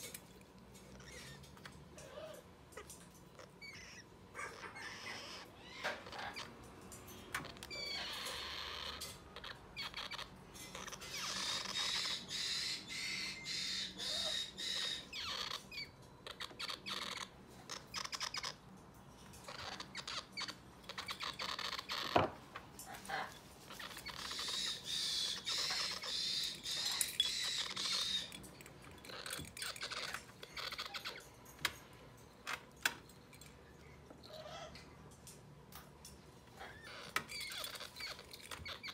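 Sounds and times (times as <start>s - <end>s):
parrot chicks begging calls: 0.8s - 18.8s, 19.4s - 31.4s, 36.4s - 38.9s.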